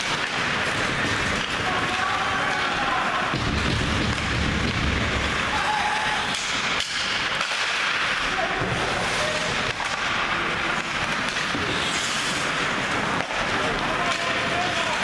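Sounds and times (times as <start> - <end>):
hockey sticks and puck clacking: 0.0 - 15.0
skates scraping ice: 0.0 - 15.0.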